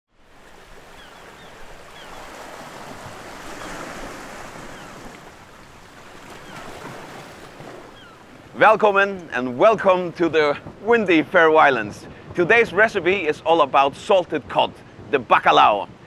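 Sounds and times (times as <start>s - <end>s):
sea waves against rocks: 0.2s - 16.0s.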